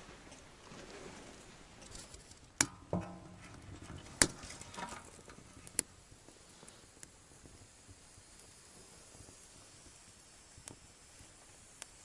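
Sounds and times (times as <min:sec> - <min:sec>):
firewood crackling pops: 0:01.8 - 0:12.0.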